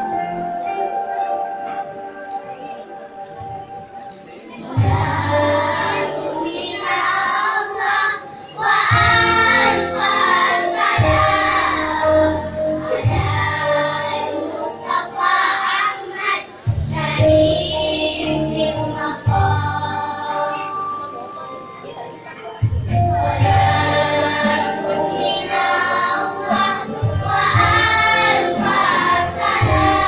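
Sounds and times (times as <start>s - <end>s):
low musical backing: 0.0s - 30.0s
children singing in unison: 4.1s - 21.2s, 22.4s - 30.0s.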